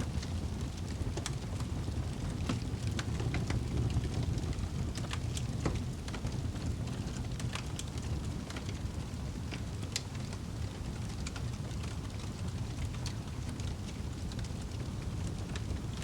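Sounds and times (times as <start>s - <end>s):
fire flames rumbling: 0.0s - 16.0s
wood fire crackling and popping: 0.0s - 16.0s.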